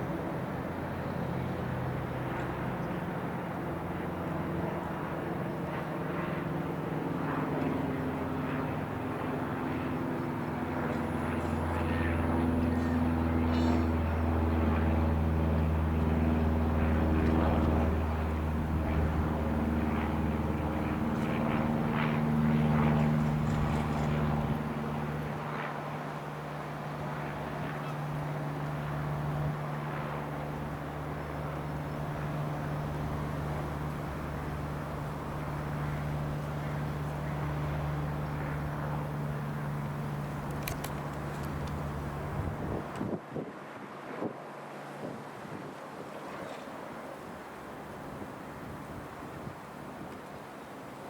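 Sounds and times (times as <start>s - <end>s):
light aircraft engine and propeller: 0.0s - 51.0s.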